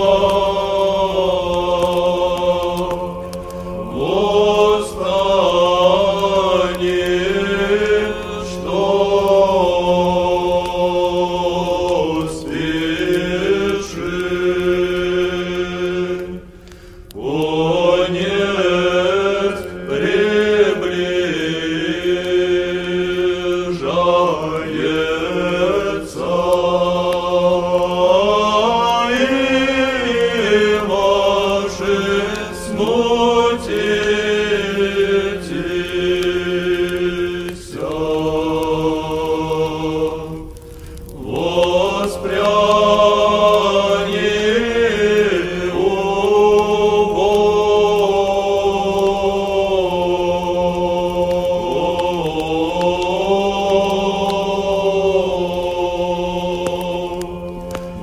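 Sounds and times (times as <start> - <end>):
church chant singing: 0.0 - 58.0.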